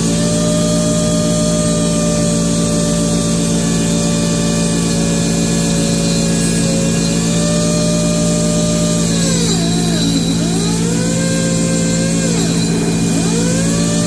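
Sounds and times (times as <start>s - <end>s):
lathe motor humming: 0.0s - 14.0s.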